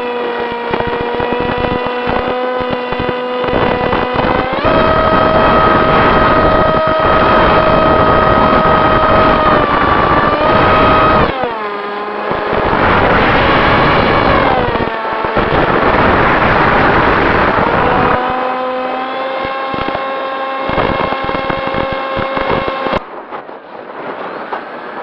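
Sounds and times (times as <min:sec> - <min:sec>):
model airplane motor whining: 0:00.0 - 0:23.0
wind buffeting microphone: 0:00.0 - 0:25.0.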